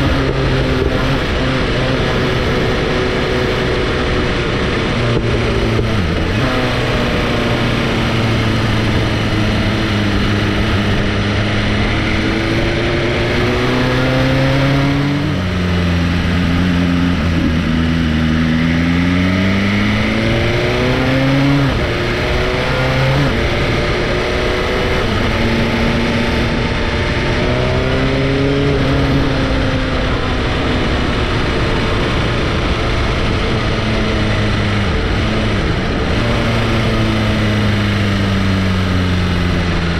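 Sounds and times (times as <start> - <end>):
sportbike engine: 0.0 - 39.9
wind and road noise: 0.0 - 39.9.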